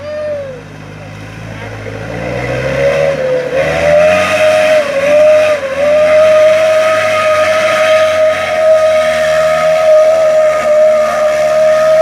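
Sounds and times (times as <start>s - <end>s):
truck engine whining in mud: 0.0s - 12.0s.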